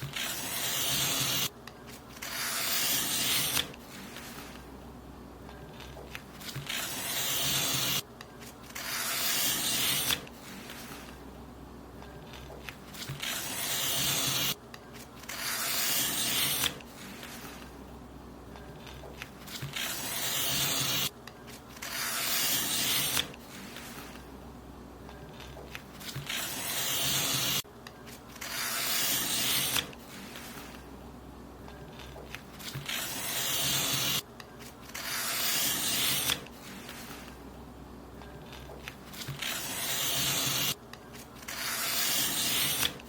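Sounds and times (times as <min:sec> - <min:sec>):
paper being cut: 0:00.0 - 0:04.6, 0:05.8 - 0:11.2, 0:12.3 - 0:17.6, 0:18.8 - 0:24.2, 0:25.4 - 0:27.6, 0:28.3 - 0:30.8, 0:32.0 - 0:37.3, 0:38.5 - 0:40.8, 0:41.4 - 0:43.0.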